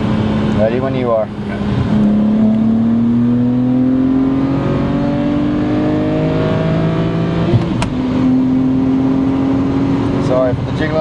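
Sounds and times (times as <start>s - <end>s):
car engine revving at full throttle: 0.0s - 11.0s.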